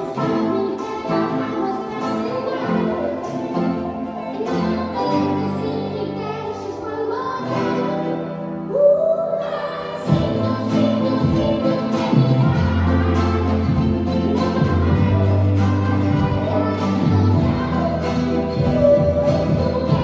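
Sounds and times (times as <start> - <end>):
acoustic guitars: 0.0 - 20.0
group singing: 0.0 - 20.0
ukulele strumming: 0.0 - 20.0.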